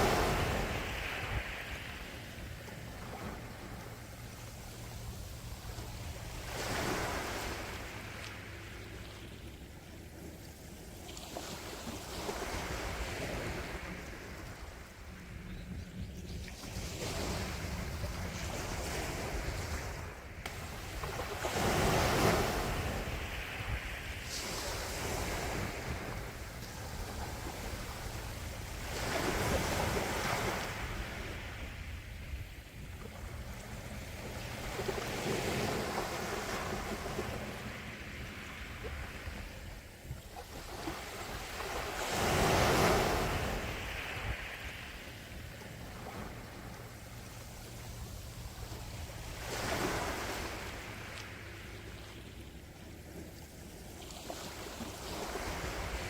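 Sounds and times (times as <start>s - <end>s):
sea waves washing in: 0.0s - 15.5s, 16.2s - 56.0s.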